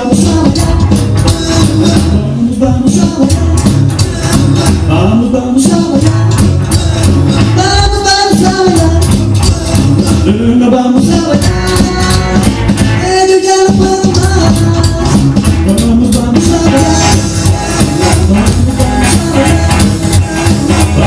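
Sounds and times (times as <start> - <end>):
rock and roll song: 0.0 - 21.0.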